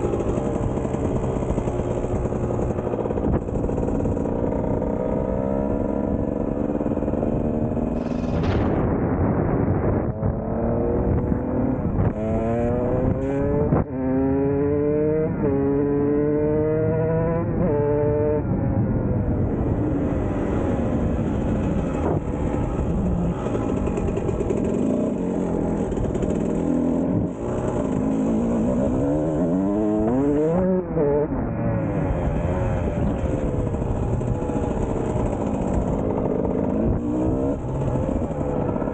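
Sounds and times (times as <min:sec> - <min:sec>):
dirt bike engine revving: 0:00.0 - 0:18.4, 0:23.3 - 0:38.9.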